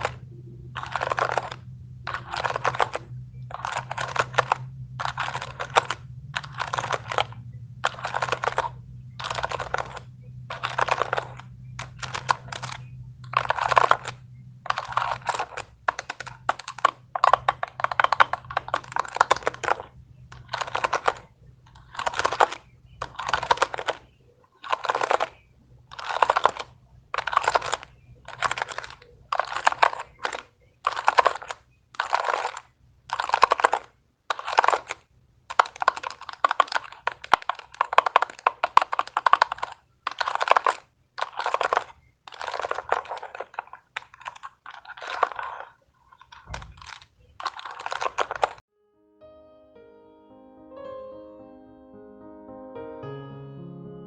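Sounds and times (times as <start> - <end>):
fidget toy clicking: 0.0 - 48.6.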